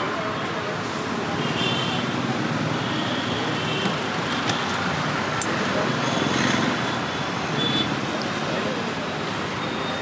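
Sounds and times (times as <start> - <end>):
roadside traffic noise: 0.0 - 10.0.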